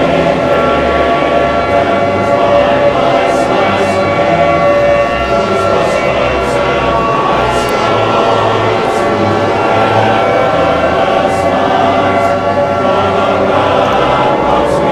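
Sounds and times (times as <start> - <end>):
siren-like drone of held tones: 0.0 - 14.9.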